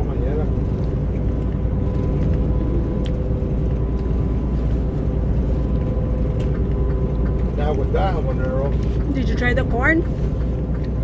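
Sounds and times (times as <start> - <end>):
truck engine rumble inside cab: 0.0 - 11.0.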